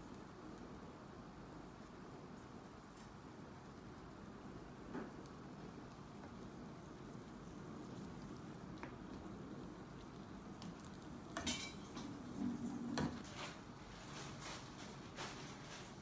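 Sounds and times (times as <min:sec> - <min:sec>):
low steady simmer: 0:00.0 - 0:16.0.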